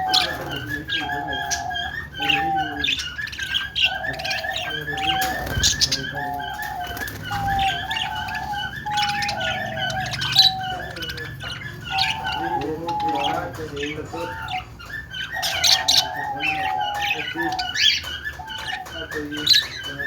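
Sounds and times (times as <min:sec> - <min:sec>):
budgies chirping and chattering: 0:00.0 - 0:20.0.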